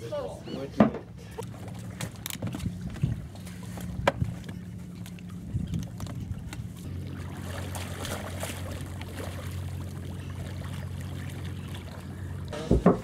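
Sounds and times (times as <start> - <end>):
boat engine humming: 0.0 - 13.0
water lapping and splashing: 0.0 - 13.0.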